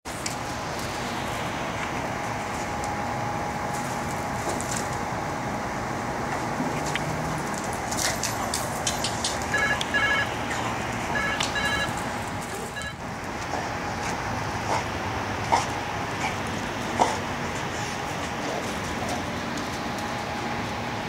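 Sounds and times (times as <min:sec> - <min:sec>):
background hum: 0:00.1 - 0:21.0.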